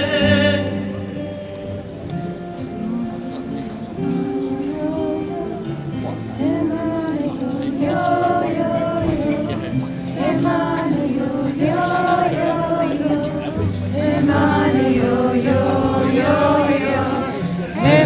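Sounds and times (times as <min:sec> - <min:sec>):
voices singing wordless melodies: 0:00.0 - 0:18.0.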